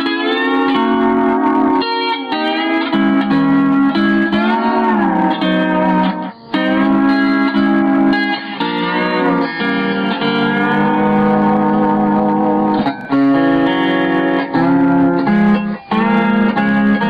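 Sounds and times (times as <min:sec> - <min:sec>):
lap steel guitar playing: 0:00.0 - 0:17.0.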